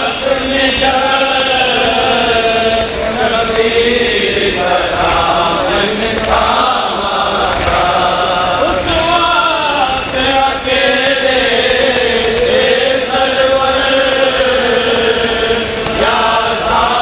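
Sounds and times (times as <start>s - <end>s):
person chanting: 0.0s - 17.0s.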